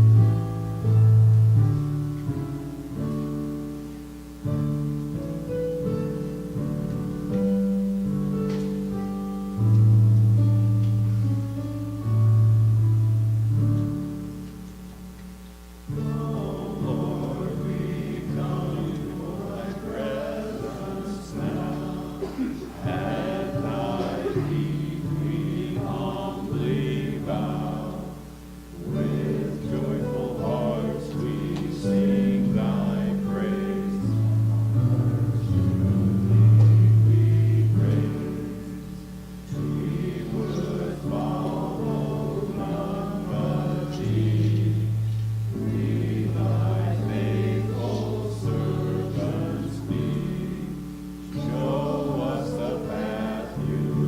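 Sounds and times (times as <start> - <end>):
congregation singing a hymn: 0.0 - 14.8, 15.7 - 54.0.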